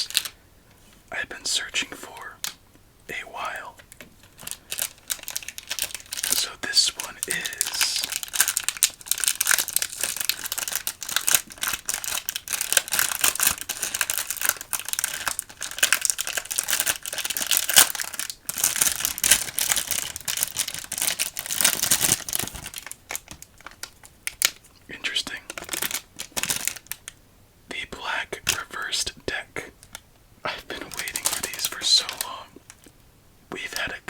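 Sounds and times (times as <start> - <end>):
packaging crinkling: 0.0 - 0.4, 3.4 - 27.2, 29.8 - 33.0.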